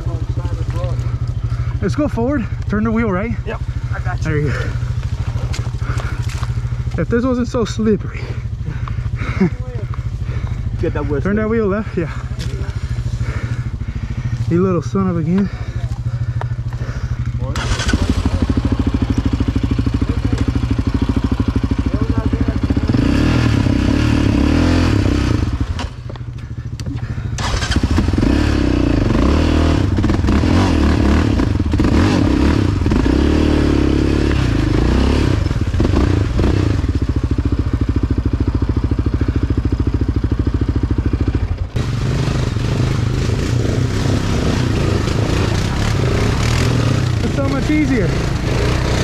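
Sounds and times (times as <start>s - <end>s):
other atv engines running: 0.0s - 49.0s
quad engine running: 0.0s - 49.0s.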